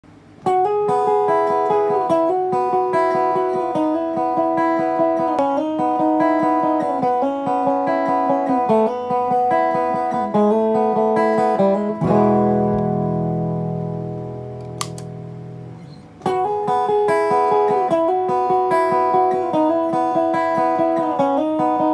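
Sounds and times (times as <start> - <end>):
clean electric guitar melody: 0.4 - 21.9
electric guitar chord ringing: 0.4 - 21.9.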